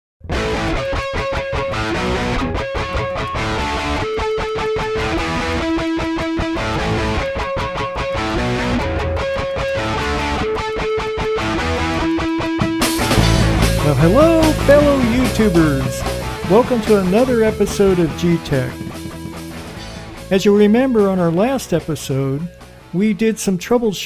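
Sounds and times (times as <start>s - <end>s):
electric guitar music: 0.2s - 23.8s.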